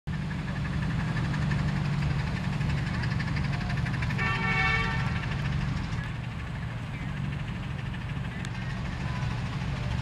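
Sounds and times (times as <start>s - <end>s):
steam locomotive exhaust beating: 0.1s - 10.0s.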